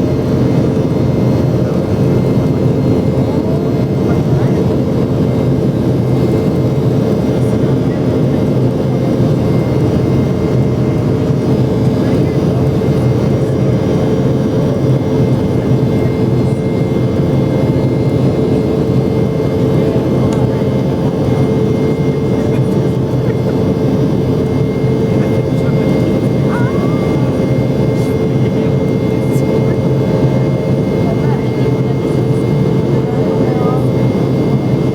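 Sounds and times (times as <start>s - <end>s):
jet engine cabin roar: 0.0s - 34.9s.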